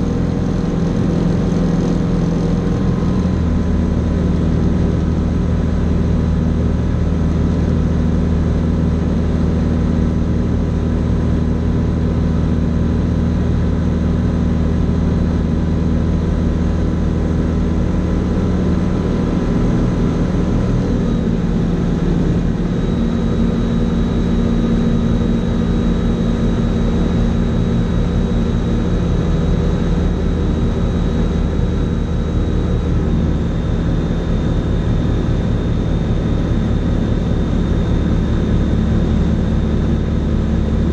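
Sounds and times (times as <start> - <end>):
aircraft engine droning: 0.0 - 40.9.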